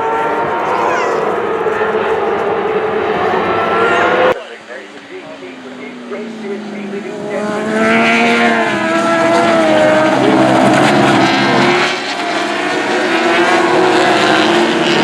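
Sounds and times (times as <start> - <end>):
racing engines revving: 0.0 - 15.0.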